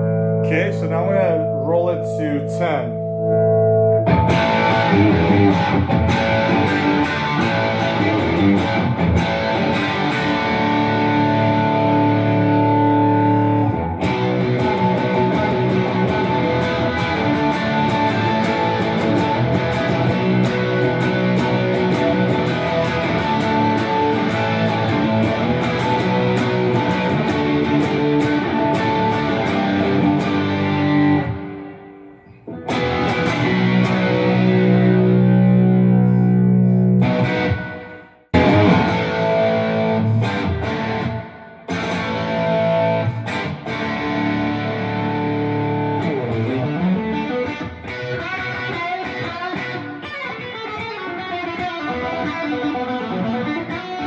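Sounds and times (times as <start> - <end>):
overdriven electric guitar chords: 0.0 - 54.0.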